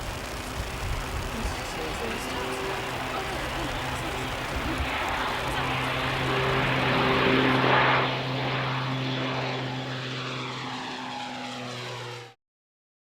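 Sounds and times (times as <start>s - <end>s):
propeller aircraft engine passing: 0.0s - 12.4s.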